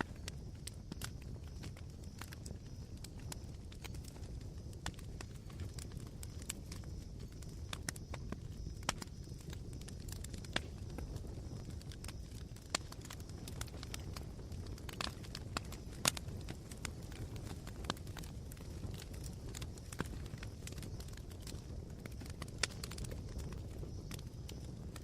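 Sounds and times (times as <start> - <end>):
campfire embers crackling: 0.0 - 25.0.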